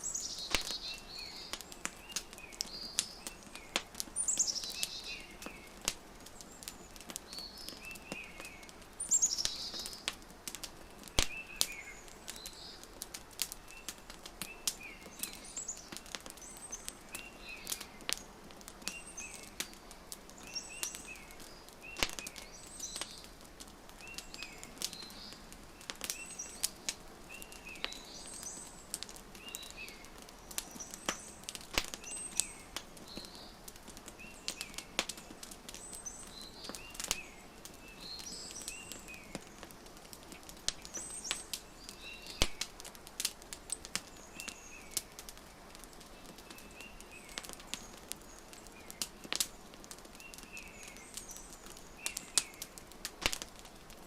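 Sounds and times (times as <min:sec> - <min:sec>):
small birds chirping: 0:00.0 - 0:54.0
wood fire crackling and popping: 0:00.0 - 0:54.0.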